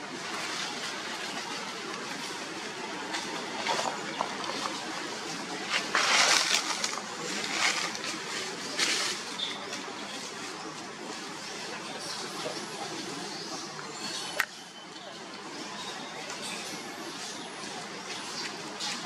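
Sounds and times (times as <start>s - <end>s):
leaves and branches rustling: 0.0s - 19.0s
steady outdoor hiss: 0.0s - 19.0s.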